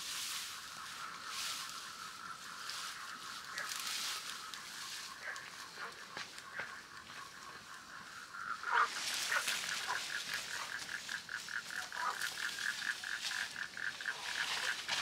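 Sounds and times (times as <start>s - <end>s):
leafy branches rustling: 0.0s - 15.0s.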